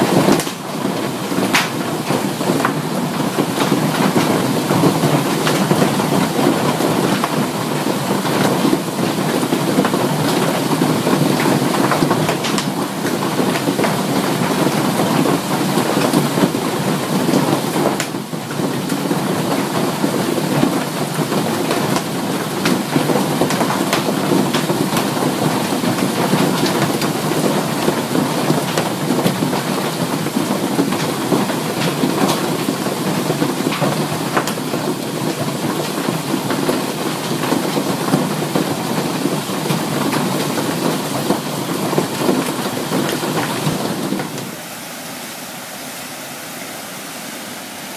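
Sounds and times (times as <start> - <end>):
hail clattering on street: 0.0 - 44.6.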